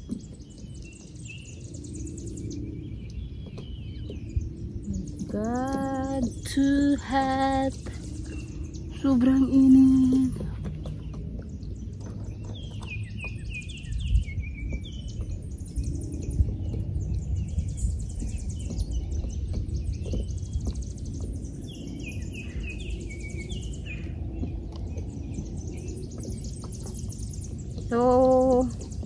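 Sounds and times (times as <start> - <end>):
songbirds singing: 0.0 - 29.0
wind rumbling on microphone: 0.0 - 29.0.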